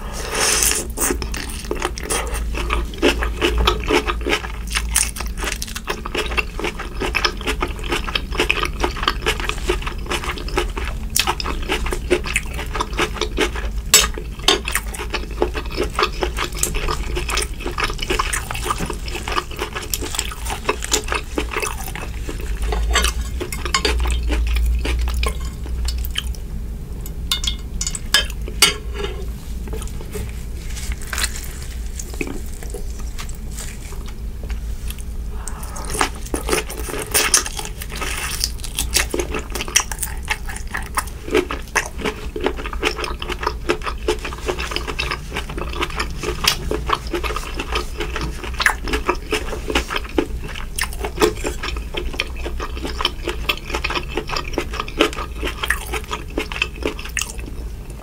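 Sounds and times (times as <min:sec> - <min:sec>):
chewing: 0:00.5 - 0:26.4, 0:27.8 - 0:58.0.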